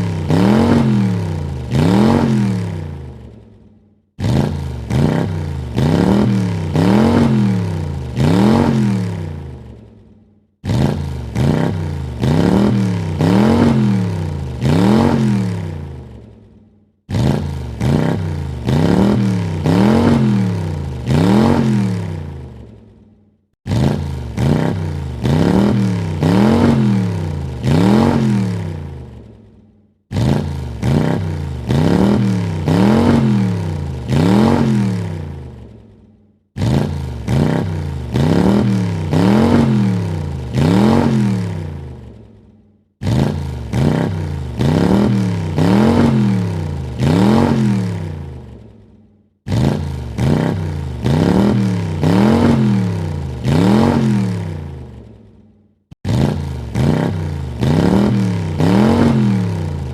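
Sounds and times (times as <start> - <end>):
car engine revving: 0.0 - 3.4, 4.2 - 9.9, 10.6 - 16.3, 17.1 - 22.8, 23.6 - 29.4, 30.1 - 35.8, 36.6 - 42.3, 43.0 - 48.7, 49.5 - 55.1, 56.0 - 59.9.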